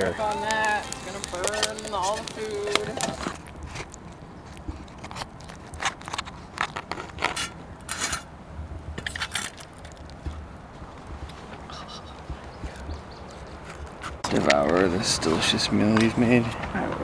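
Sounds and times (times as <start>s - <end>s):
campfire crackling and popping: 0.0s - 17.0s
scraping: 0.0s - 17.0s.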